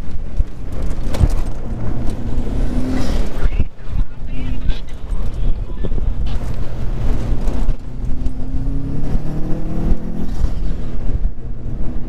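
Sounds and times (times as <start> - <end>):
car engine revving: 0.0 - 12.0
road and tyre rumble: 0.0 - 12.0.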